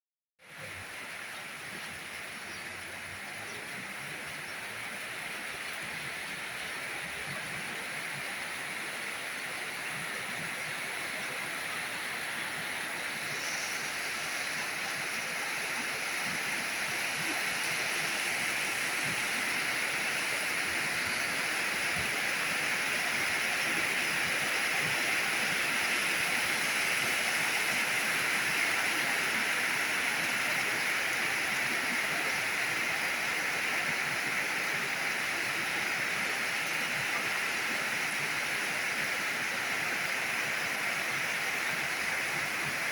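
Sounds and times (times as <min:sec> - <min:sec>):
steady rain falling: 0:00.5 - 0:42.9.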